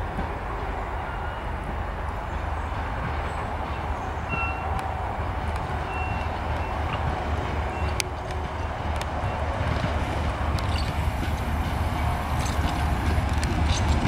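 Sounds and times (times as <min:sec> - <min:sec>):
diesel train engine rumbling: 0:00.0 - 0:14.0.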